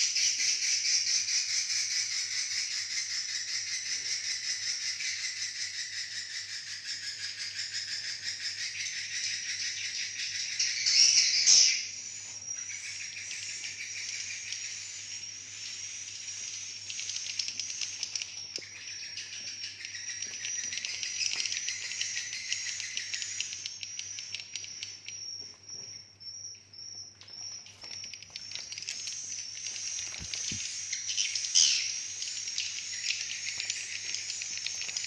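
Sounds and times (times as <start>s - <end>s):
swiftlets chattering twitter: 0.0s - 25.4s, 27.4s - 35.0s.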